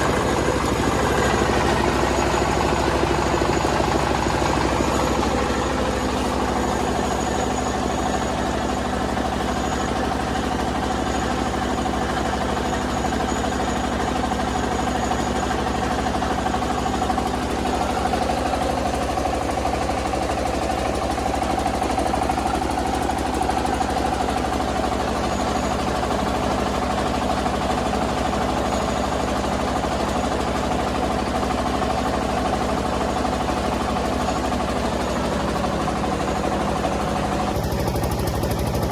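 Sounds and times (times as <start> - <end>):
milling machine humming: 0.0 - 38.9.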